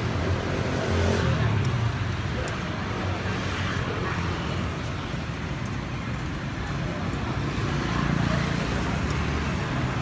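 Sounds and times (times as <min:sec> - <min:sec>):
road traffic engines: 0:00.0 - 0:10.0.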